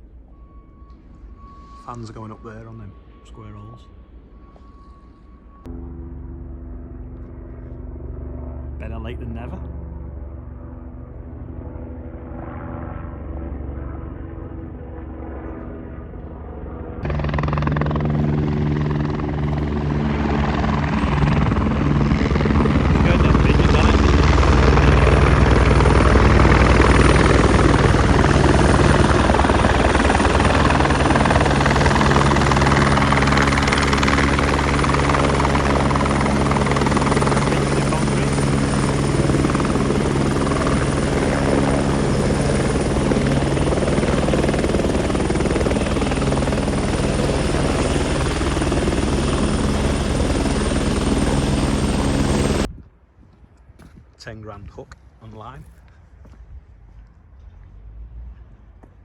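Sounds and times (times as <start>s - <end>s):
high turbine whine: 0.0s - 52.7s
helicopter rotor noise: 0.1s - 52.7s.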